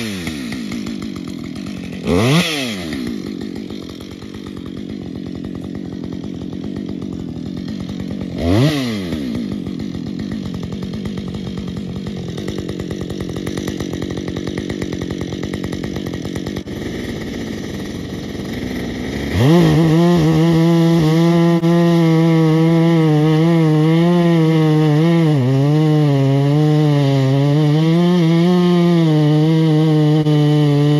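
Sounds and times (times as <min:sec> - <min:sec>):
chainsaw idling and revving: 0:00.0 - 0:30.9.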